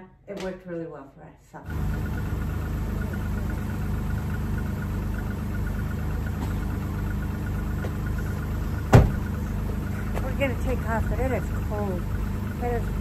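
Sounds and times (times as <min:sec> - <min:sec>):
car engine idling: 0:01.7 - 0:13.0.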